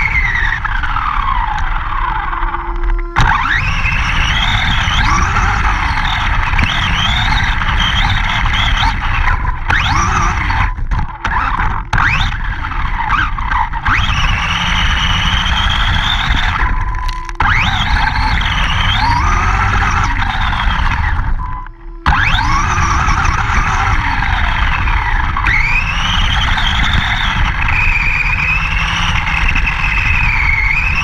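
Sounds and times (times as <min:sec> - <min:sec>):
rc truck motor whining: 0:00.0 - 0:31.0
tyres and chassis rumbling: 0:00.0 - 0:31.0.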